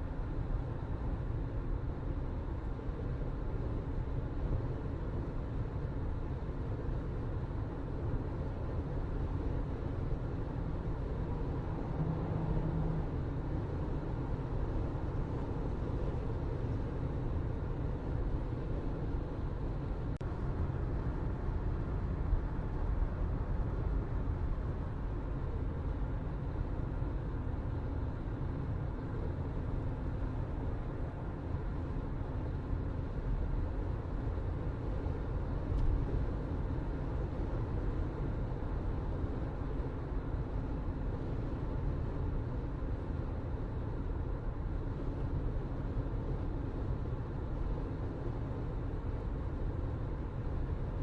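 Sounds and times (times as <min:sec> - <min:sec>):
low rumble and hiss: 0:00.0 - 0:51.0.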